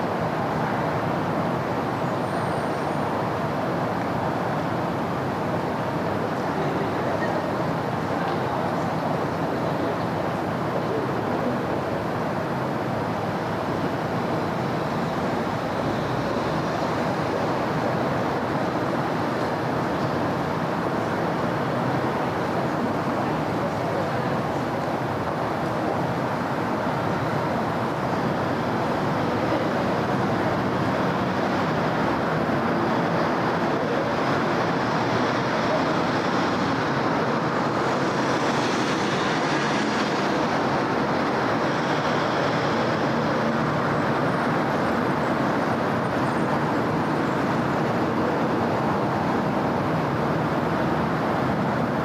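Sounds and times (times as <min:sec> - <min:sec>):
city traffic noise: 0:00.0 - 0:52.0.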